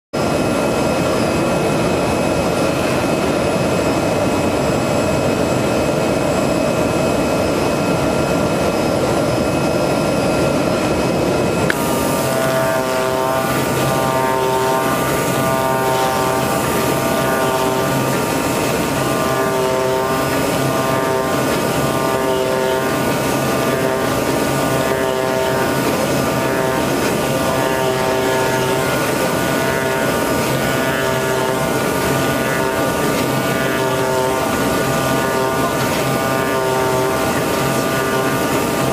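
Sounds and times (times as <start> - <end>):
foam cutting machine running: 0.2 - 38.9.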